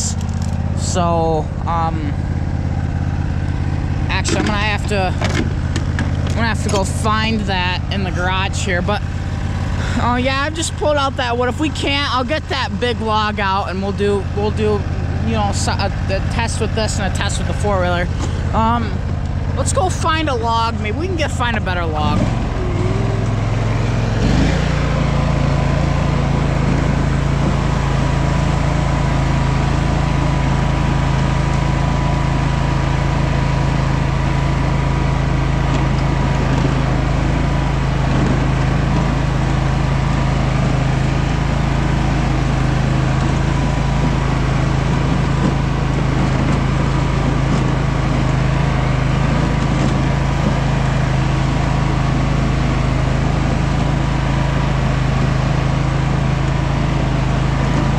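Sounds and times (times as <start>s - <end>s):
lawn mower engine revving: 0.0s - 57.9s.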